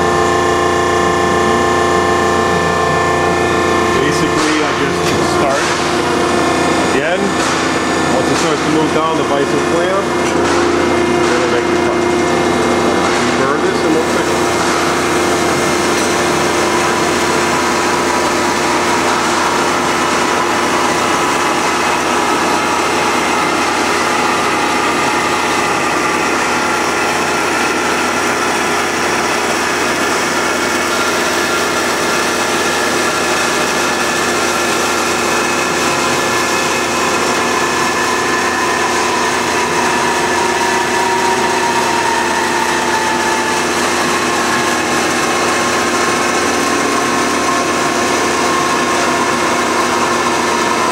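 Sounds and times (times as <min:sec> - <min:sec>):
band saw cutting tube: 0:00.0 - 0:50.9.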